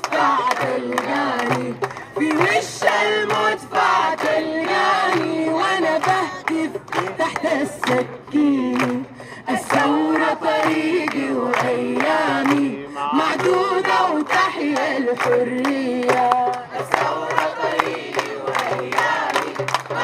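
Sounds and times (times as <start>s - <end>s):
crowd chanting: 0.0s - 6.5s, 9.6s - 20.0s
hands clapping: 0.0s - 20.0s.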